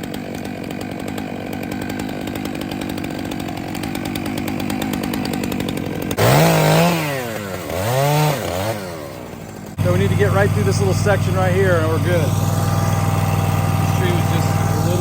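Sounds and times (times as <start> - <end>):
chainsaw running and revving: 0.0 - 15.0.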